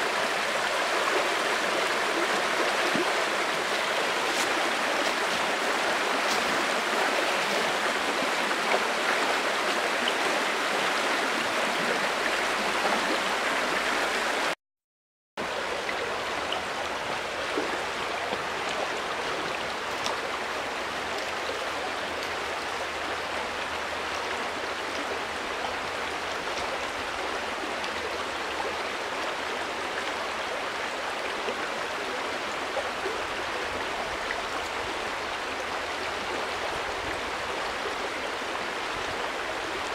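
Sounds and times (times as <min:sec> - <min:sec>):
river water rushing: 0:00.0 - 0:14.6, 0:15.4 - 0:39.9.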